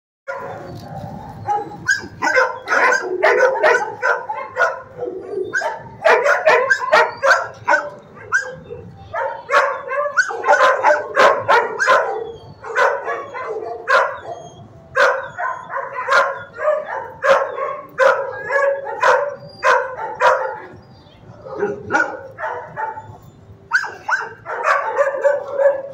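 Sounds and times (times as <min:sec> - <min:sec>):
dogs barking: 0:00.3 - 0:25.9.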